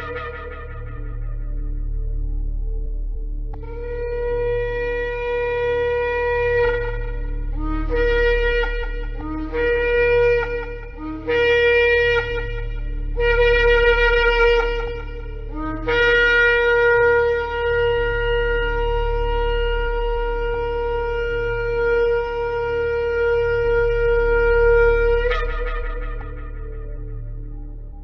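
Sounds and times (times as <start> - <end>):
shofar blasts: 0.0 - 2.4, 3.6 - 27.7.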